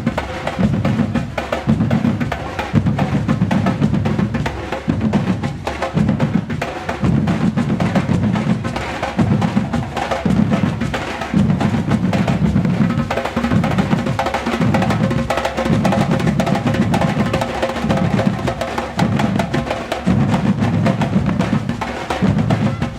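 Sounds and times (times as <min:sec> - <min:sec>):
sharp high drum strokes: 0:00.0 - 0:22.9.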